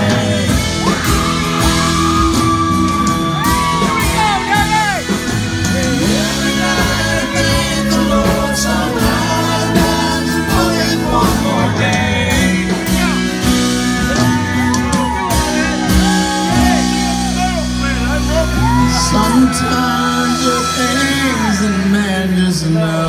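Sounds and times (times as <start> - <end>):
lead vocal singing: 0.0 - 17.2, 18.6 - 23.0
drums: 0.0 - 23.0
guitars: 0.0 - 23.0.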